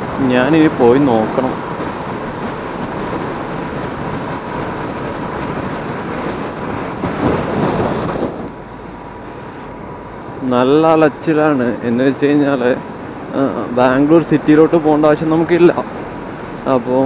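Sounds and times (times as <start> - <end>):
wind rush: 0.0 - 17.0.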